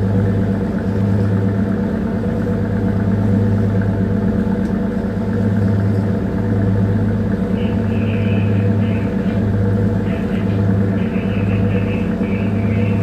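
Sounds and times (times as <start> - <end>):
ship diesel engine humming: 0.0 - 13.0.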